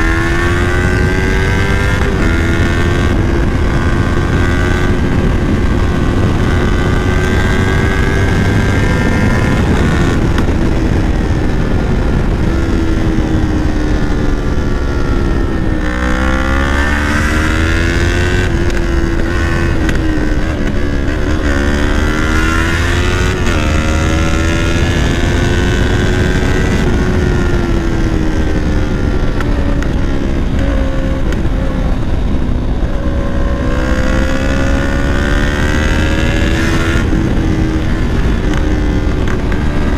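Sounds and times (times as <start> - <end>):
low wind rumble: 0.0 - 39.9
motorcycle engine revving: 0.0 - 39.9.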